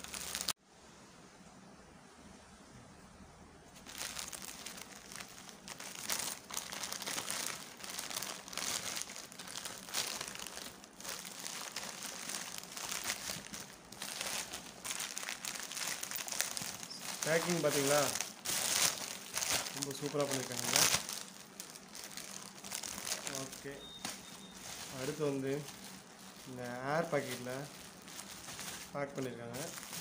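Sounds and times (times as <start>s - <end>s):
plastic bag and bubble wrap crinkling: 0.0s - 0.6s, 3.8s - 30.0s.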